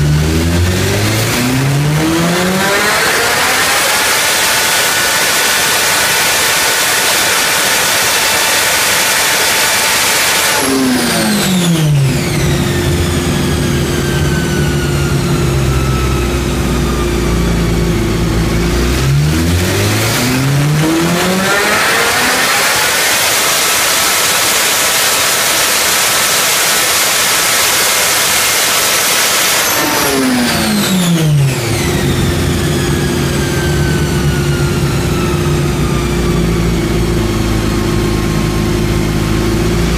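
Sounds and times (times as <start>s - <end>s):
motorcycle engine revving on dyno: 0.0s - 39.9s.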